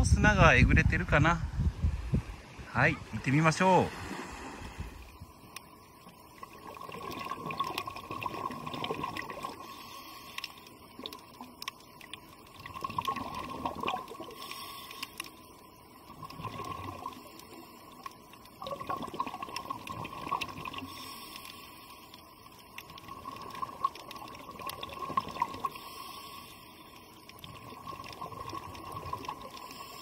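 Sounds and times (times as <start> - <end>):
faint steady tone: 0.0 - 30.0
water bubbling underwater: 3.9 - 26.0, 26.9 - 30.0.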